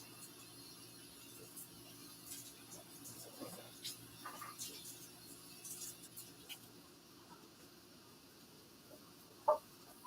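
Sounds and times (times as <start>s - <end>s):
faint steady hum and hiss: 0.0s - 10.0s.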